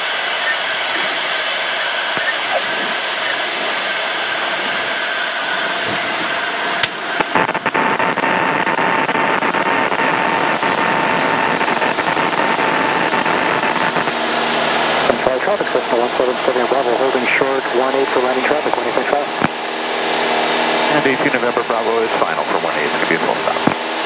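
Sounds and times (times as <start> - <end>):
airplane engine drone: 0.0 - 24.0
steady whine: 0.0 - 24.0.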